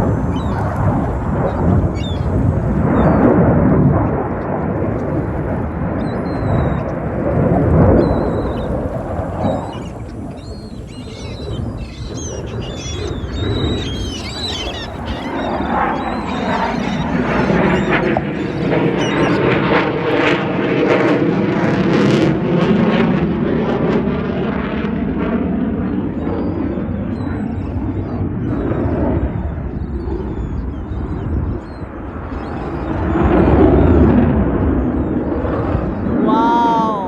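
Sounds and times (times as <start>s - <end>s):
fighter jet flying past: 0.0s - 37.0s.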